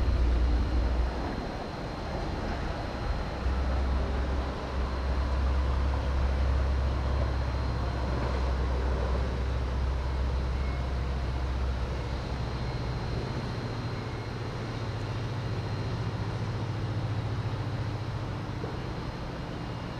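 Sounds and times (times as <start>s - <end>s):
general noise haze: 0.0s - 19.9s
low engine drone: 0.0s - 19.9s.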